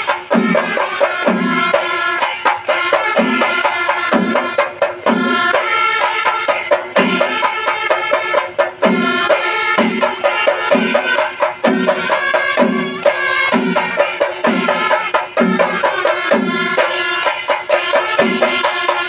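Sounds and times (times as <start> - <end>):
drums playing together: 0.0 - 19.0.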